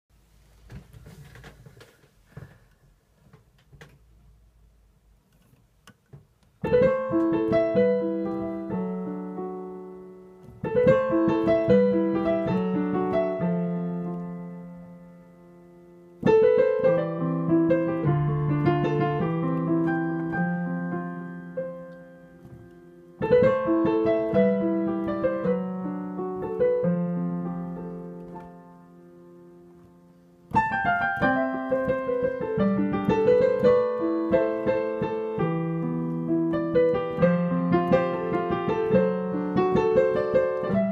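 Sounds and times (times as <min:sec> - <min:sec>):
solo piano: 0:06.5 - 0:40.9.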